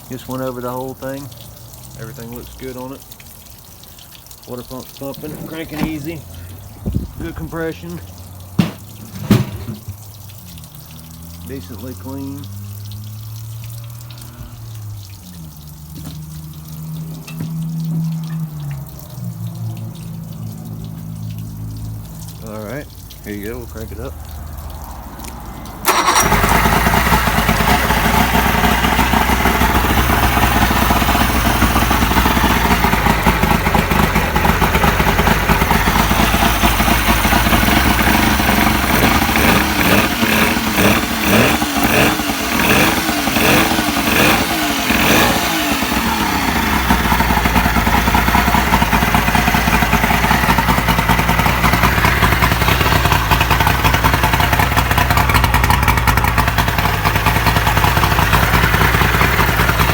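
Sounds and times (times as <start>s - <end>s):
outboard motor starting and running: 0.0s - 22.6s, 23.2s - 59.9s.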